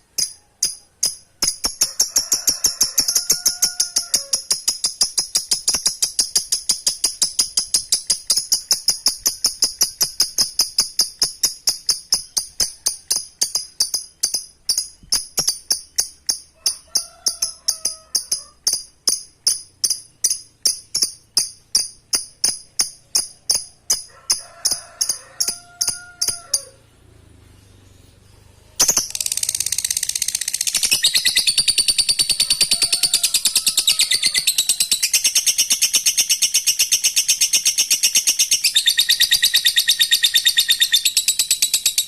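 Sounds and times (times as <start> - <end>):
lovebird chattering: 1.0 - 21.9, 28.8 - 42.0.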